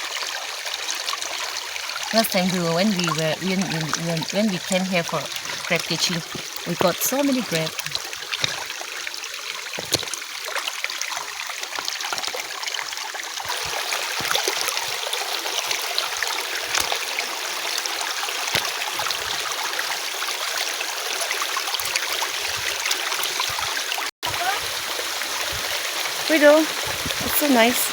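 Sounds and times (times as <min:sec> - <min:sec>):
stream running over rocks: 0:00.0 - 0:27.9.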